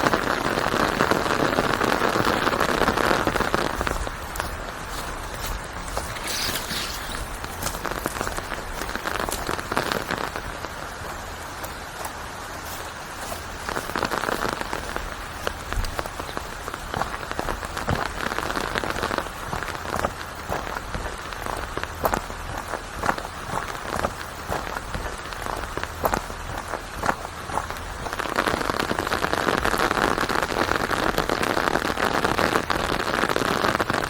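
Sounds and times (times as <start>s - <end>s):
continuous rain hiss: 0.0s - 34.0s
rain drop hits: 0.0s - 34.0s.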